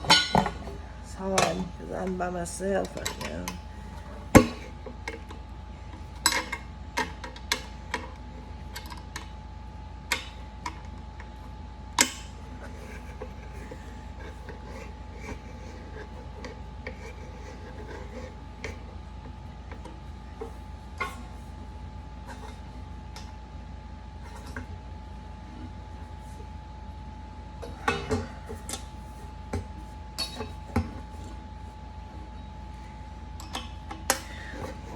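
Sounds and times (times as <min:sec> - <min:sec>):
faint steady hum: 0:00.0 - 0:34.9.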